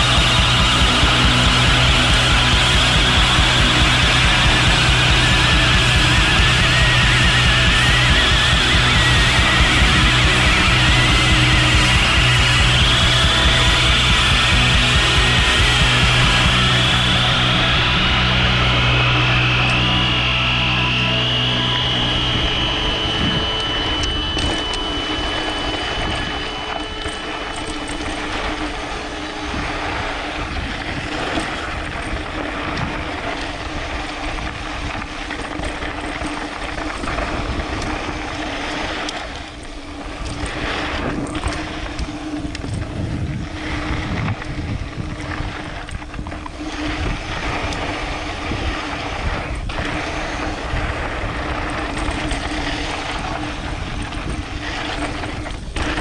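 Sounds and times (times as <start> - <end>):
steady hum: 0.0 - 56.0
wind and tyre noise: 0.0 - 56.0.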